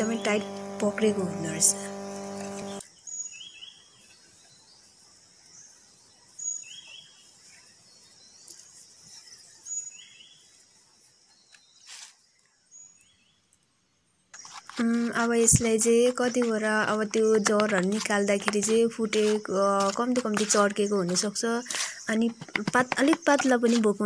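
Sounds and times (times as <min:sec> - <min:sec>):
faint outdoor ambience: 0:00.0 - 0:24.0.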